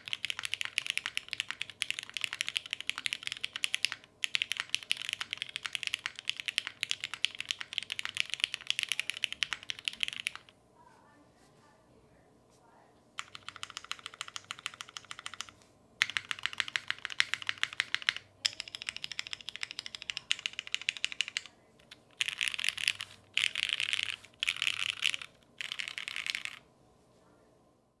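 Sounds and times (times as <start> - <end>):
fast mechanical keyboard typing: 0.0 - 10.5, 13.2 - 26.6.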